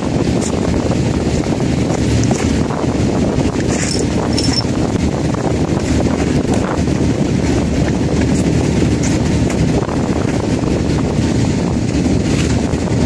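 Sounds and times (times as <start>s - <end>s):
steady rumble: 0.0s - 13.0s.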